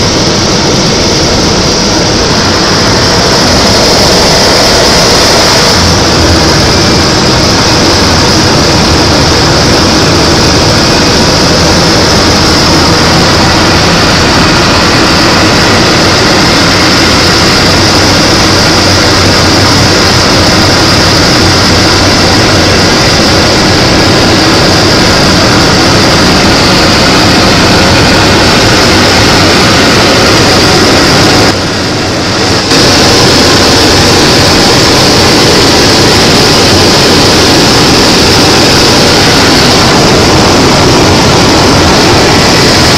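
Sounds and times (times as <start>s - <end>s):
propeller aircraft engine drone: 0.0s - 42.9s.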